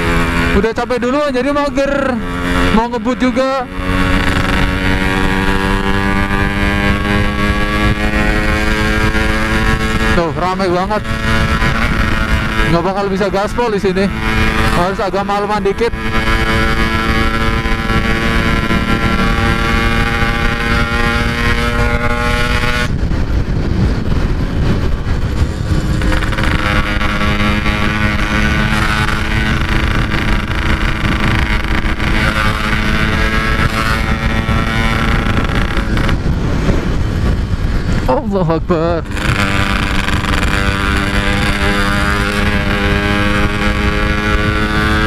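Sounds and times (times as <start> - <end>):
two-stroke motorcycle cruising: 0.0 - 45.0.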